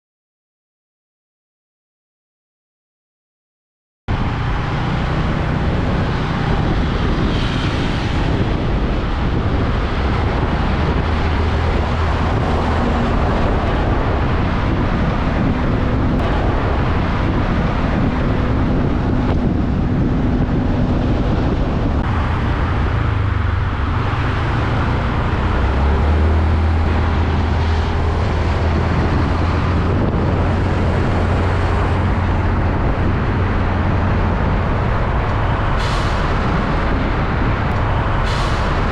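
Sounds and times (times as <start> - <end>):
diesel trucks passing: 4.1 - 38.9.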